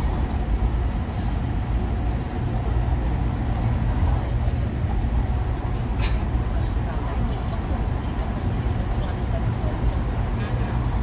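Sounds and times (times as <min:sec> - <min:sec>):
vehicle road and engine noise: 0:00.0 - 0:11.0.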